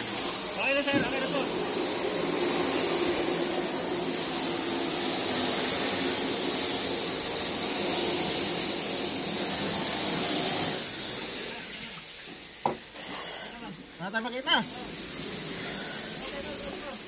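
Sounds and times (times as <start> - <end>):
fire hose spraying water: 0.0 - 17.0.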